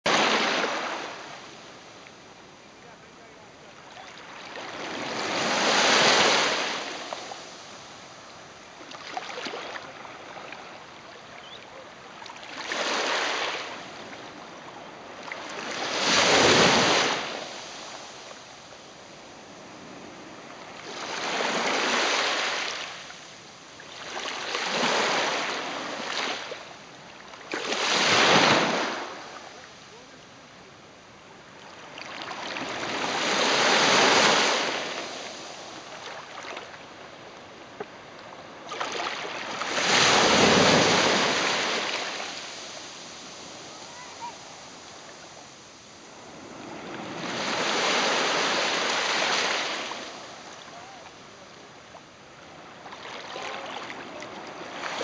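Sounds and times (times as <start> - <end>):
small waves washing over sand: 0.1 - 2.4, 3.2 - 30.2, 31.5 - 37.2, 37.9 - 55.0.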